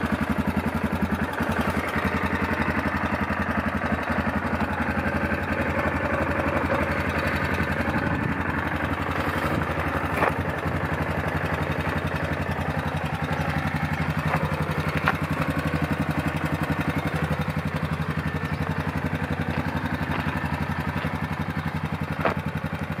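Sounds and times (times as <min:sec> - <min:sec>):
quad bike engine idling: 0:00.0 - 0:23.0.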